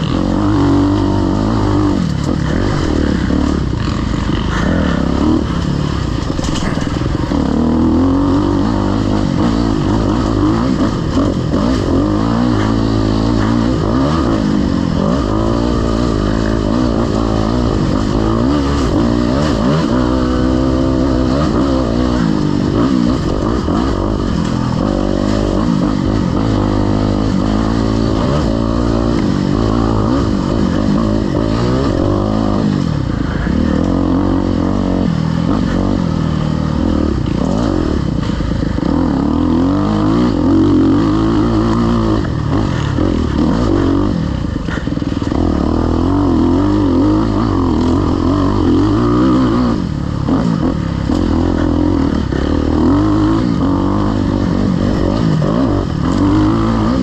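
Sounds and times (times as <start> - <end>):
clatter: 0.0 - 57.0
dirt bike engine revving: 0.0 - 57.0.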